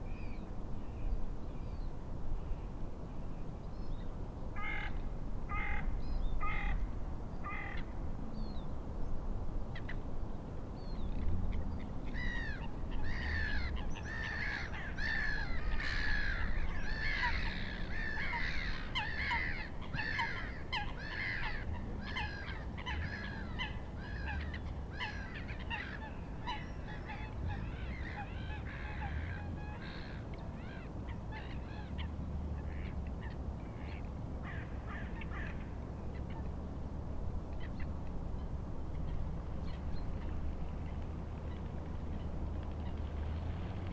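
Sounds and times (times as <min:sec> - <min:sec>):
wind: 0:00.0 - 0:43.9.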